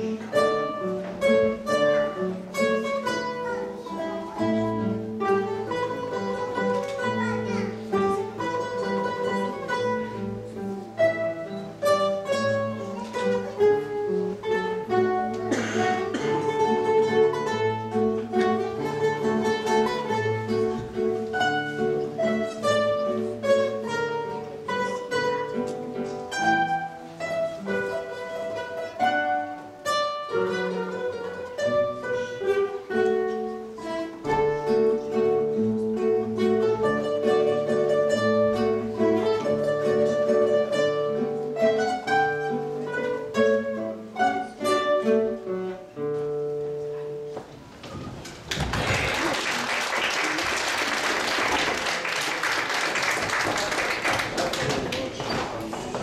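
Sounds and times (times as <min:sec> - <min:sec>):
classical guitars playing: 0:00.0 - 0:56.0.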